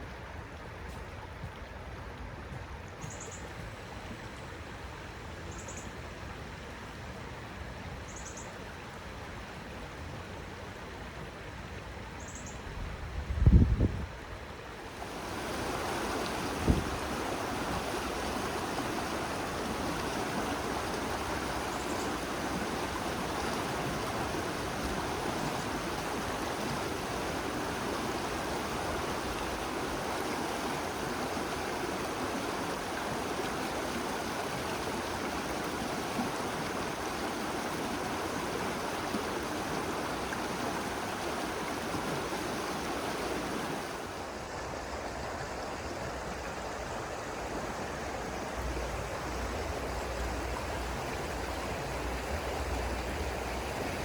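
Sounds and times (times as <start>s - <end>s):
river water flowing: 0.0s - 12.6s, 14.1s - 54.0s.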